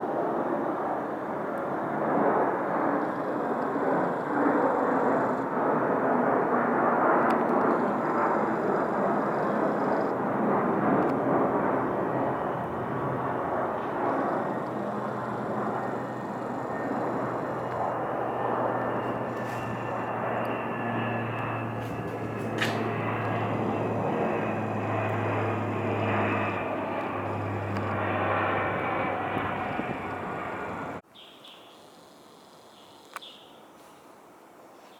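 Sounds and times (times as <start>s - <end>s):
turboprop aircraft engines: 0.0s - 31.1s
low propeller hum: 0.1s - 31.0s.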